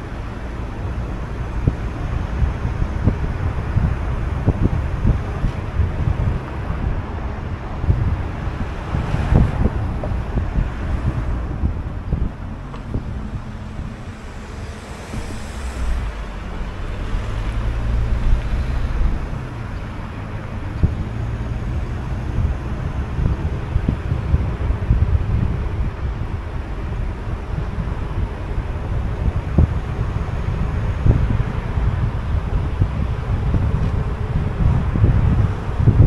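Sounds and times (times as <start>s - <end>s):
car road and engine rumble: 0.0s - 36.0s
wind buffeting microphone: 0.0s - 36.0s.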